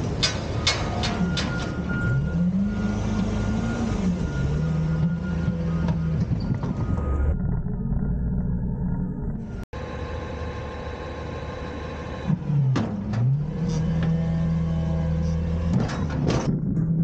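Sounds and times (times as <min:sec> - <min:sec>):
truck engine revving: 0:00.9 - 0:09.7, 0:11.6 - 0:17.0.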